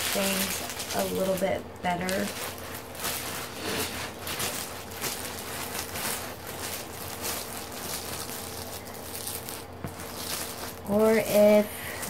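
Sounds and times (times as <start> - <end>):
plastic film rustling and crinkling: 0.0 - 12.0.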